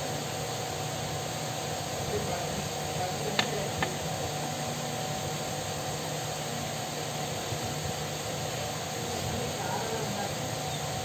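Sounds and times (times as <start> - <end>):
electric fan whirring: 0.0 - 11.0.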